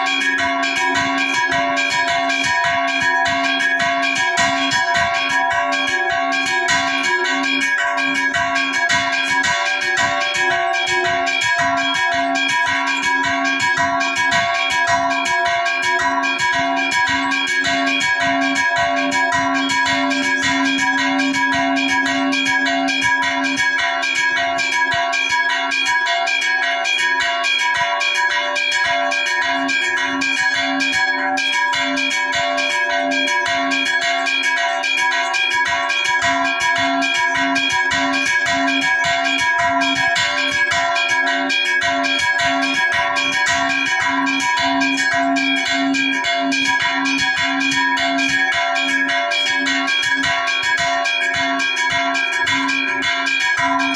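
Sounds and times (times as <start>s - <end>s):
church bells pealing: 0.0s - 53.9s.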